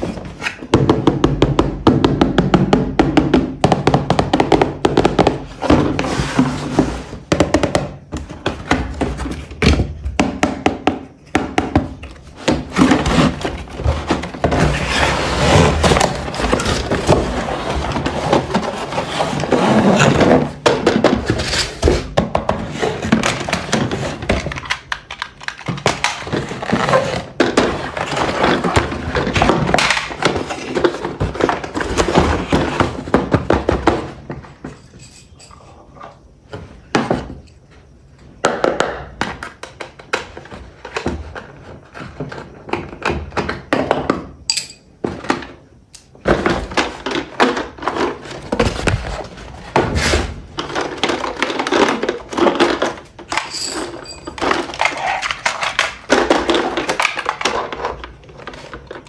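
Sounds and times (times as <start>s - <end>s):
objects knocking and clattering: 0.0s - 59.0s.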